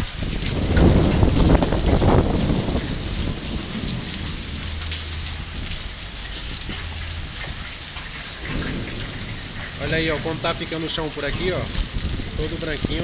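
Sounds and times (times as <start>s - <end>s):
hail and rain on pavement: 0.0s - 13.0s.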